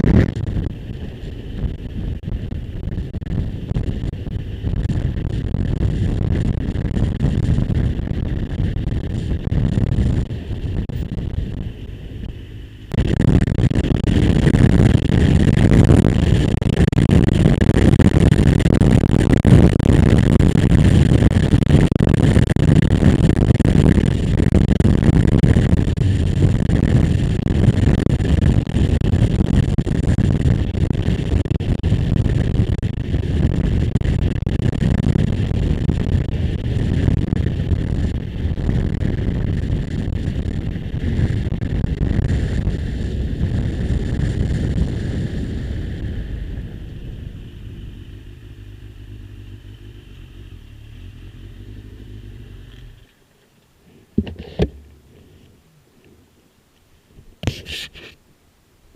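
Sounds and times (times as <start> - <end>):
motorcycle engine running: 0.0 - 34.2, 35.2 - 53.3
wind rushing over microphone: 0.0 - 53.2.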